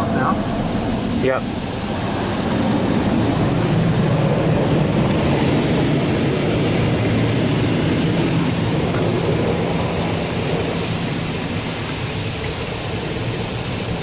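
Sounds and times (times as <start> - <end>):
high-pressure water spray hissing: 0.0 - 14.0.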